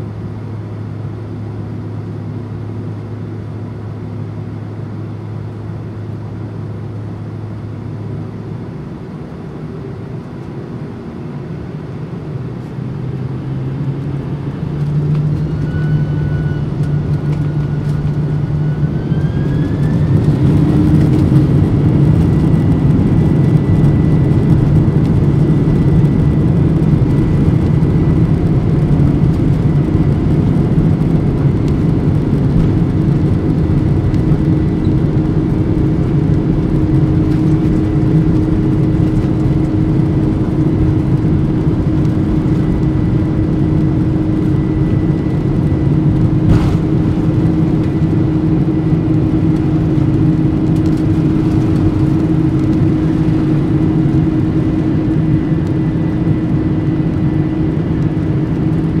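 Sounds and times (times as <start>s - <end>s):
high engine whine: 0.0s - 59.0s
jet engine roar: 0.0s - 59.0s.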